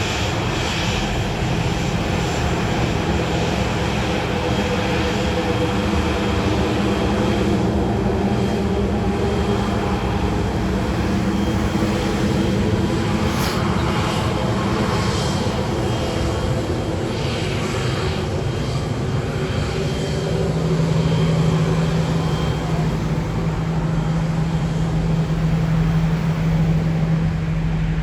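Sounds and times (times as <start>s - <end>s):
aircraft engines running: 0.0s - 28.0s.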